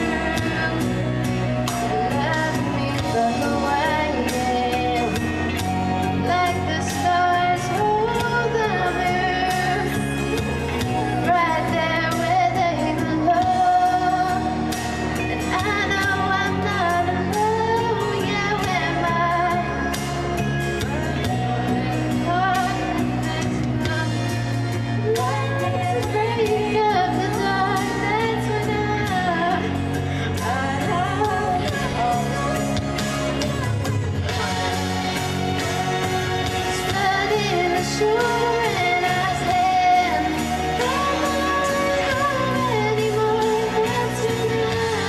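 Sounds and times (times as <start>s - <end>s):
instrumental accompaniment: 0.0s - 45.0s
woman singing a pop ballad: 0.0s - 45.0s.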